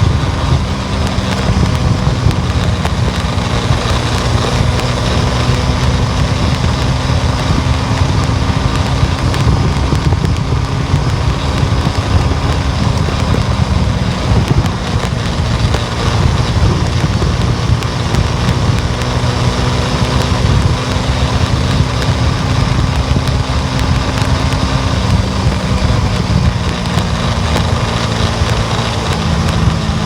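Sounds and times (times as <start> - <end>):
car engine hum: 0.0 - 30.0
road noise: 0.0 - 30.0.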